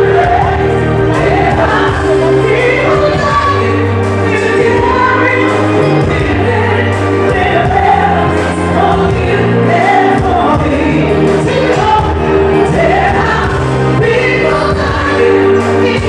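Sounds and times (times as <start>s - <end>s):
music accompaniment: 0.0s - 16.0s
woman singing into microphone: 0.0s - 16.0s.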